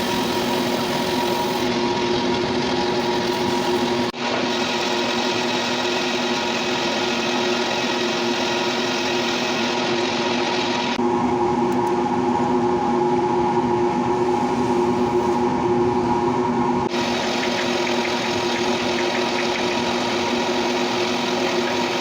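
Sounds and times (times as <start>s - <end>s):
metal lathe humming: 0.0s - 15.4s, 16.8s - 22.0s.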